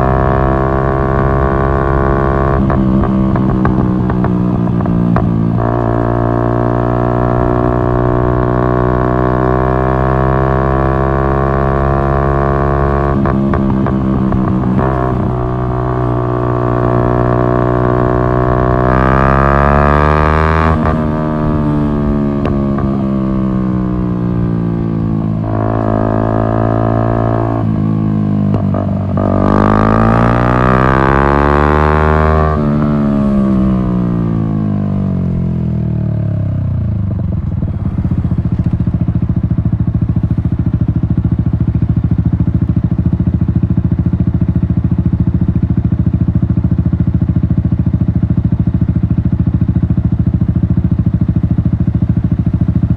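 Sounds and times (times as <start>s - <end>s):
motorcycle engine droning: 0.0s - 52.9s.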